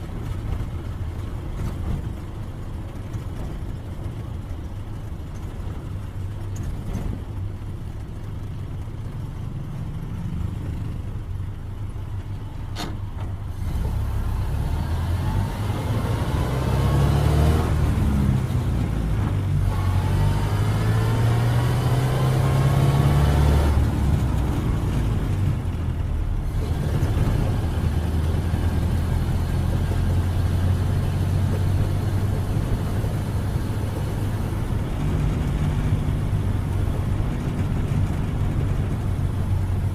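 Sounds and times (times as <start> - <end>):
old car engine running: 0.0 - 16.8, 22.4 - 39.9
road noise: 0.0 - 39.9.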